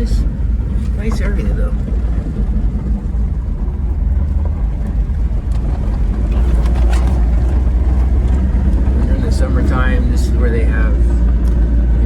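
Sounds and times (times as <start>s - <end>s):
small truck engine rumble: 0.0s - 12.0s
tyres on the road: 0.0s - 12.0s.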